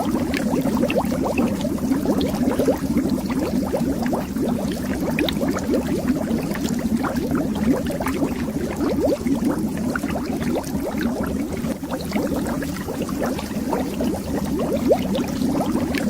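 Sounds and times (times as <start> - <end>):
underwater air bubbles: 0.0 - 16.0.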